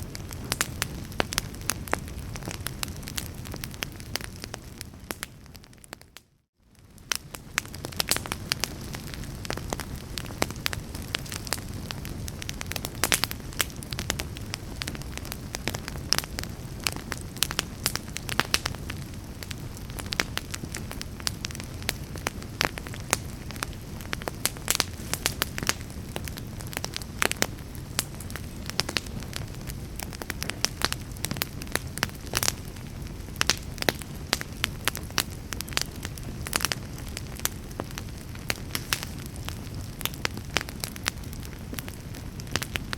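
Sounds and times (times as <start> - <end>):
fire crackling in a fireplace: 0.0 - 42.9.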